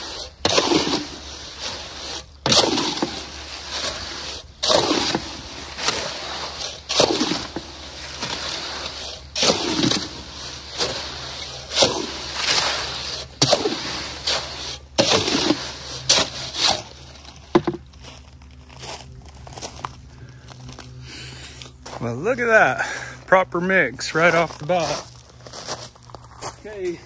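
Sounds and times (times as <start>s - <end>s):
shovel scraping wet concrete: 0.0s - 25.9s.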